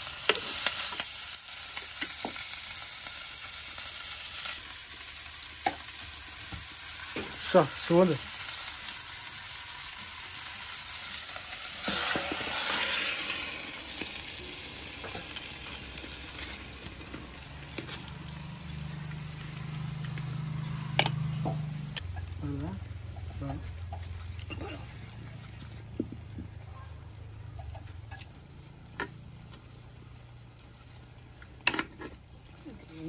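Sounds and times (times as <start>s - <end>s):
fish sizzling in a pot: 0.0s - 33.0s.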